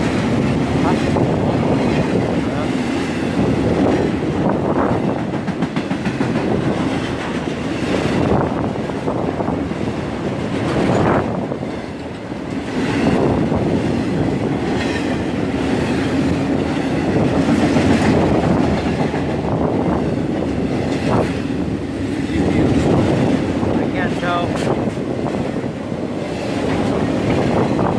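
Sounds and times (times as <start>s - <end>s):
freight train cars rolling past: 0.0s - 27.9s.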